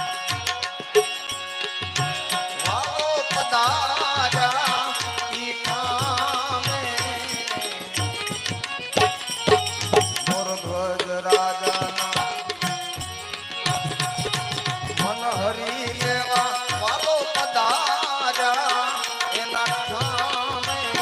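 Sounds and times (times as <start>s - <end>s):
tabla playing a rhythm: 0.0s - 21.0s
person singing: 2.2s - 21.0s.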